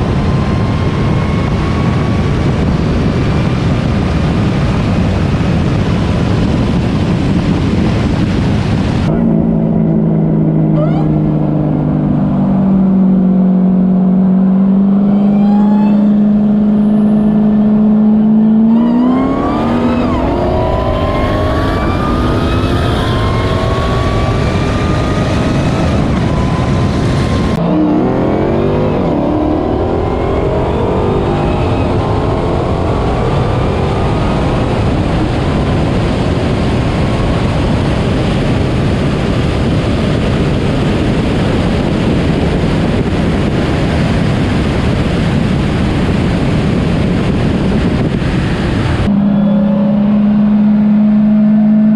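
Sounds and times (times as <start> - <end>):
wind and road noise: 0.0 - 51.9
car engine revving through gears: 9.0 - 51.9.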